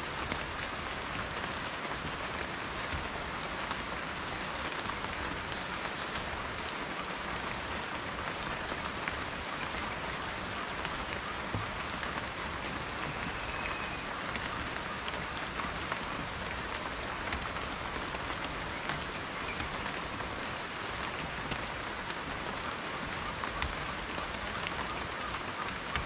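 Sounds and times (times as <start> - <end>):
rain falling: 0.0 - 26.0
raindrops ticking: 0.1 - 26.0.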